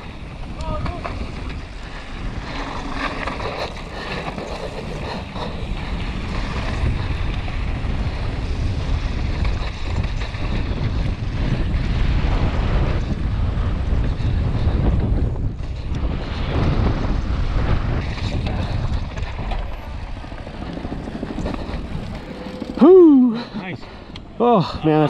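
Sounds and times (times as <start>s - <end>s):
bike tyre and trail noise: 0.0s - 25.0s
wind buffeting microphone: 0.0s - 25.0s.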